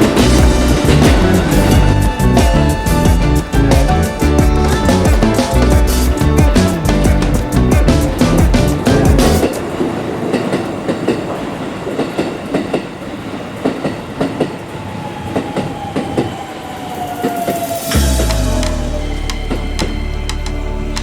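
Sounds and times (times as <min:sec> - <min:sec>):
train whine falling in pitch: 0:00.0 - 0:11.4, 0:15.0 - 0:21.0.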